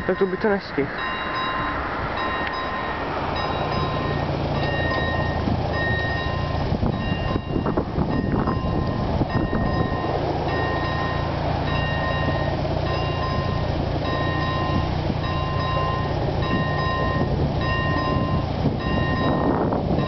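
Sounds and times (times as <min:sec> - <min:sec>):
level crossing bell ringing: 0:00.0 - 0:19.6
car engine humming: 0:00.0 - 0:20.0.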